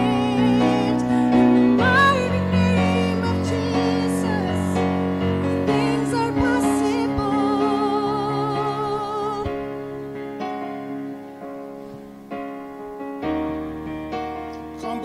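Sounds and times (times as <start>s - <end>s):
electric keyboard chords: 0.0s - 15.0s.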